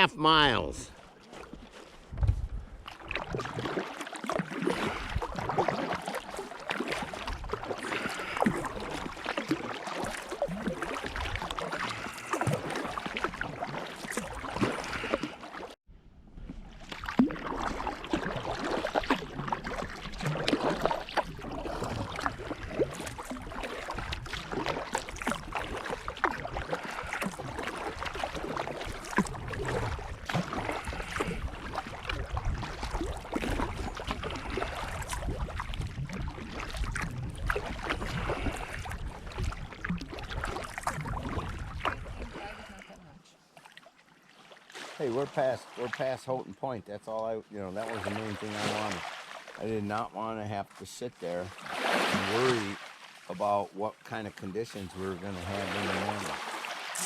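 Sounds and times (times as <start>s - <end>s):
waves slapping against hull: 0.0s - 15.8s, 16.4s - 57.0s
paddle splashes: 0.0s - 57.0s
steady wash of water: 2.8s - 15.8s, 16.5s - 57.0s.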